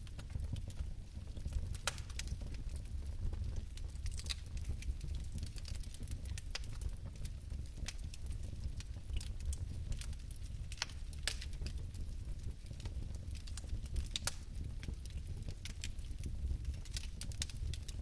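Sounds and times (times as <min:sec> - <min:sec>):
fire crackling: 0:00.0 - 0:18.0
low rumble of flames: 0:00.0 - 0:18.0.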